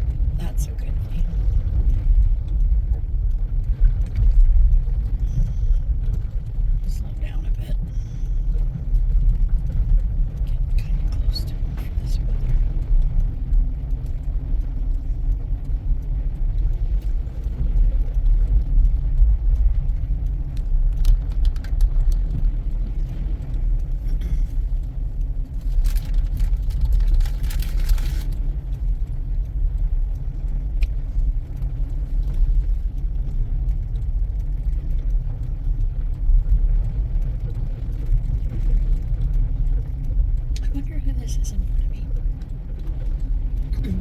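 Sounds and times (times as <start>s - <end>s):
car driving through snow: 0.0s - 44.0s
wind: 0.0s - 44.0s.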